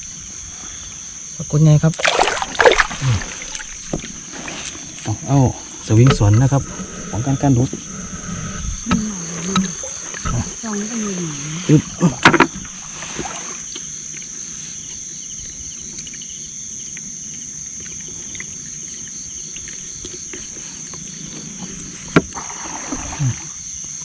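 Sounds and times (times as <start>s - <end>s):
insects shrilling: 0.0s - 24.0s.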